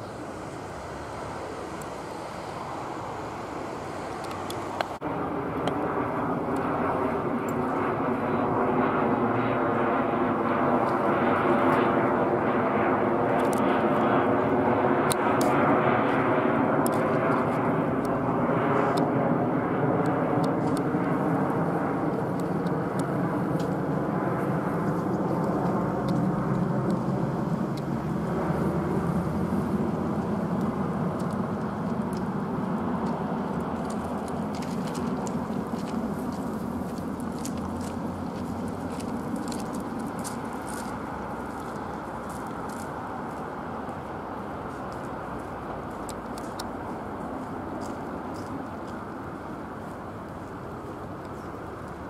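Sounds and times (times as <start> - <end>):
jet roar with engine whine: 0.0 - 52.0.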